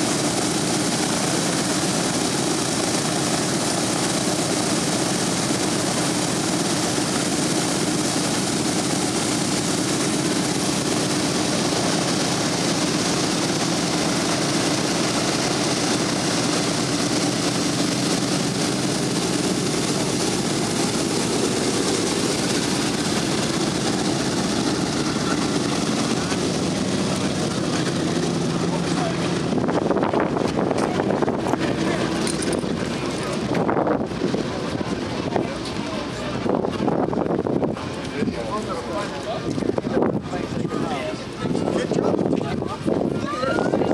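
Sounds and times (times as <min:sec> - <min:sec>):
propeller aircraft engines running: 0:00.0 - 0:43.9.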